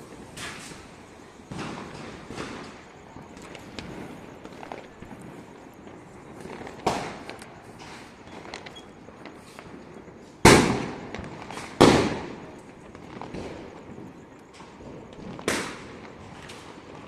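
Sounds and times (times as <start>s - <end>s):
faint firecracker pops: 0.0s - 5.4s, 6.4s - 9.8s, 10.4s - 17.0s
firecracker bangs: 0.0s - 17.0s.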